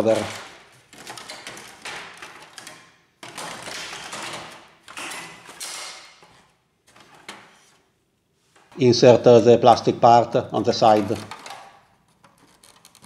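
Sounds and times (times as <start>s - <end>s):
plastic clattering and scraping: 0.0s - 8.9s, 10.6s - 13.0s.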